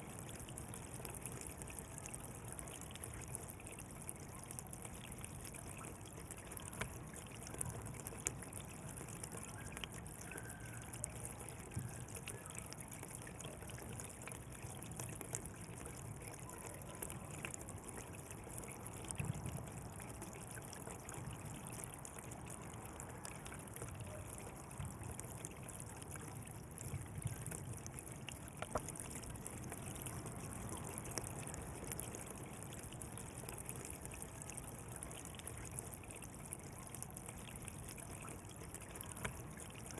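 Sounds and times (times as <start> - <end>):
water flowing in a channel: 0.0 - 39.9.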